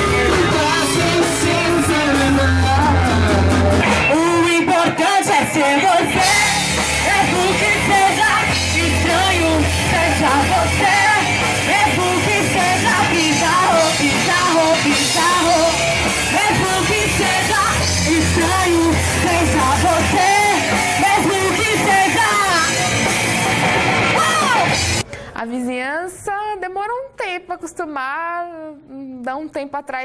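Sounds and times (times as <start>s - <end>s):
person singing: 0.0s - 23.1s, 24.1s - 25.1s
rock band playing: 0.0s - 25.0s.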